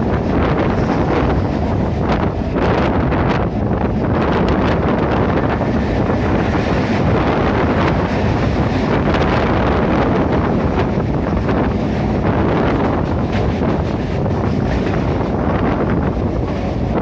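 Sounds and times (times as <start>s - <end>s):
train running along track: 0.0s - 17.0s
wind buffeting microphone: 0.0s - 17.0s.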